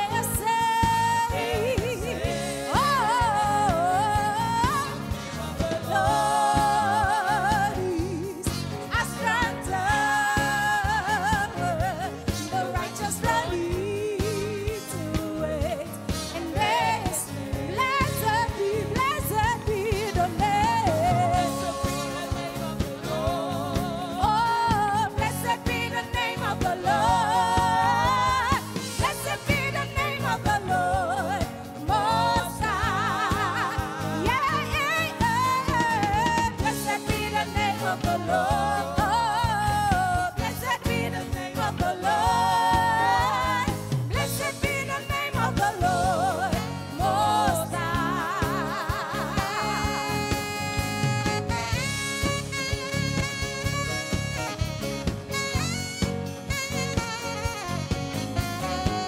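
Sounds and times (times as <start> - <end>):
women singing worship song: 0.0 - 50.8
gospel band playing: 0.0 - 59.0.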